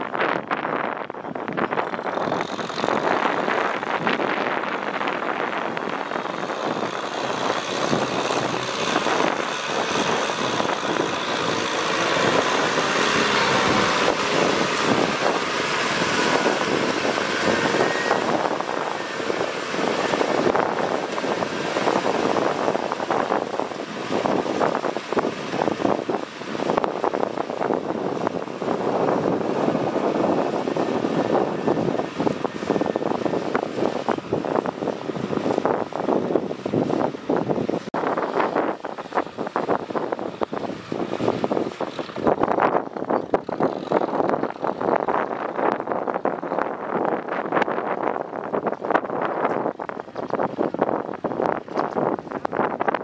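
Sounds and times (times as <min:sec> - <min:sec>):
tractor diesel engine under load: 0:00.2 - 0:52.4
rotary tiller churning mud: 0:01.8 - 0:46.4.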